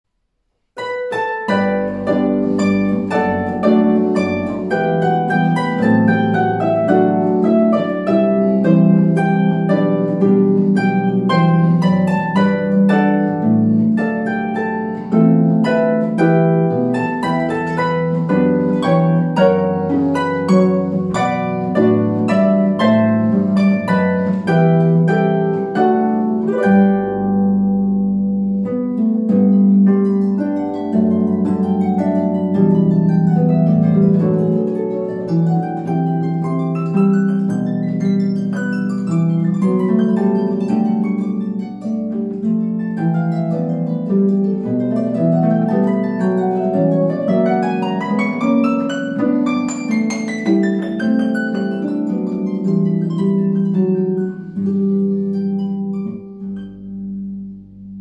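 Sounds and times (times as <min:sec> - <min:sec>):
harp playing: 0:00.8 - 0:58.0.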